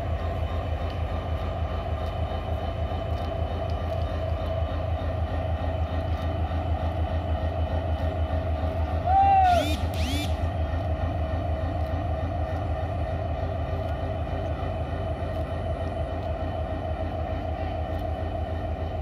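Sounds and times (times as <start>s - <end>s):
locomotive engine idling: 0.0s - 19.0s.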